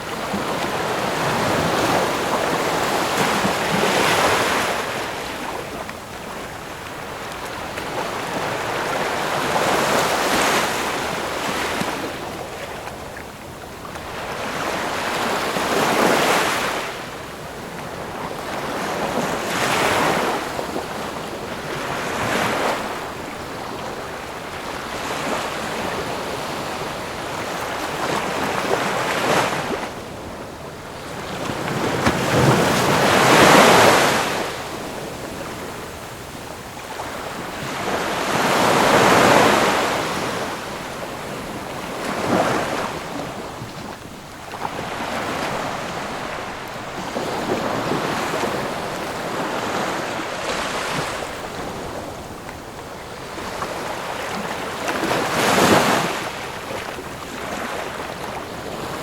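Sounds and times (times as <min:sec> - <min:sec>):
ocean waves breaking: 0:00.0 - 0:59.0
wind: 0:00.0 - 0:59.0.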